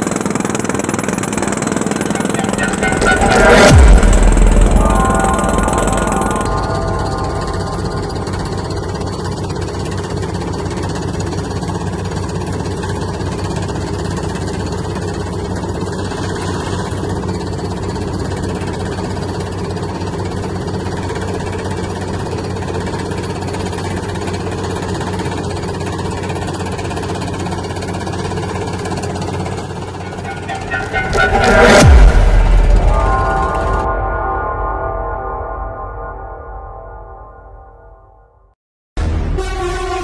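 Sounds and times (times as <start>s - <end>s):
heavy diesel engine running: 0.0s - 33.8s.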